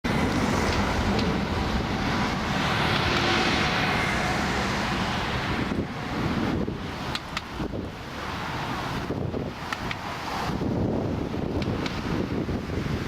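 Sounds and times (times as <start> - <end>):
jet airliner passing overhead: 0.0 - 13.0
wind buffeting microphone: 0.1 - 13.0.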